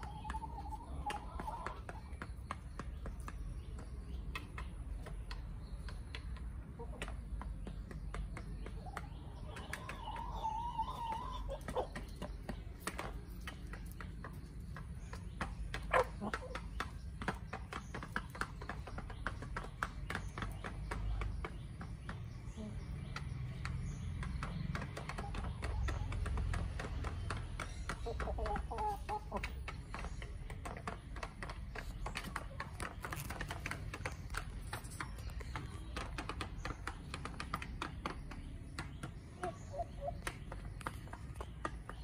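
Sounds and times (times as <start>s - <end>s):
chicken clucking: 0.0s - 23.3s, 24.2s - 42.0s.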